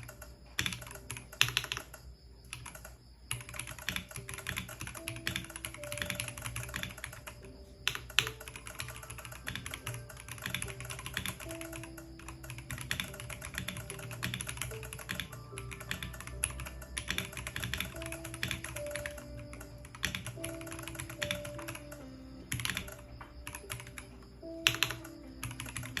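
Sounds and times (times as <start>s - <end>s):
mechanical keyboard typing clacks: 0.0s - 26.0s.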